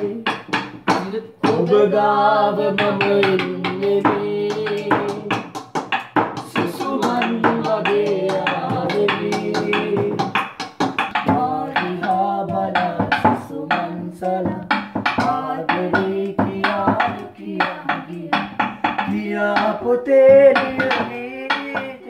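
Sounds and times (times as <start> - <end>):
quick drum beats: 0.0 - 22.0.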